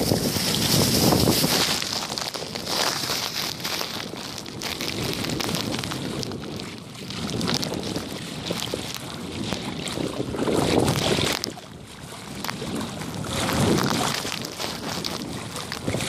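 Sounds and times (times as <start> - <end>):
legs wading through water: 0.0 - 16.0
wind on microphone: 0.0 - 16.0.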